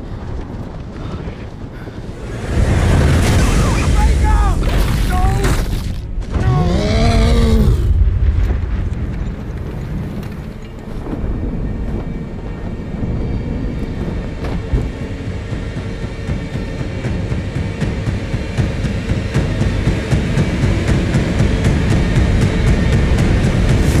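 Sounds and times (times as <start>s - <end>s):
rushing wind and rumble: 0.0s - 24.0s.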